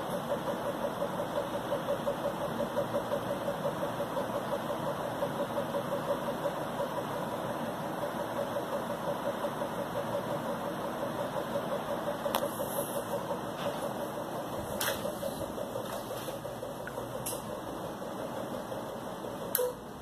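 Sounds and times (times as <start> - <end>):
ceiling fan motor humming: 0.0 - 20.0.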